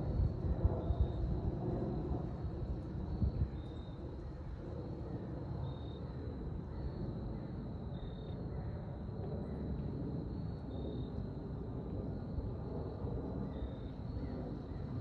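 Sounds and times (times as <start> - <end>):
jet airliner flying overhead: 0.0 - 15.0.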